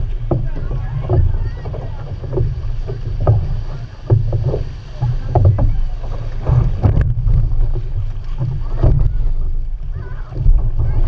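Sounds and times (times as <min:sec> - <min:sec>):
paddles splashing: 0:00.0 - 0:11.0
water rushing along hull: 0:00.0 - 0:11.0
wind rumble on microphone: 0:00.0 - 0:11.0.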